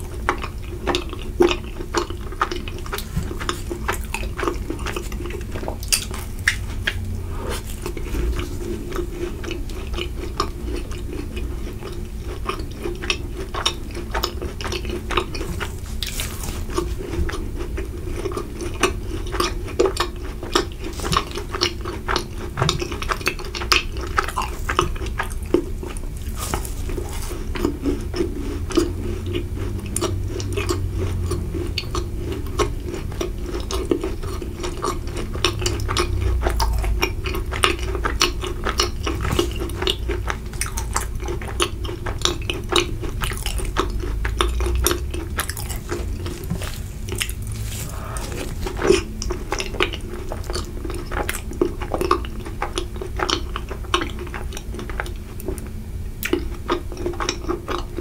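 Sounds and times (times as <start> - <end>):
crisp chewing crunches: 0.0 - 58.0.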